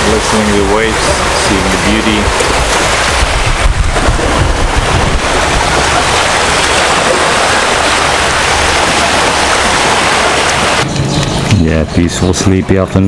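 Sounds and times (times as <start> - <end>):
sea waves washing on shore: 0.0 - 10.9.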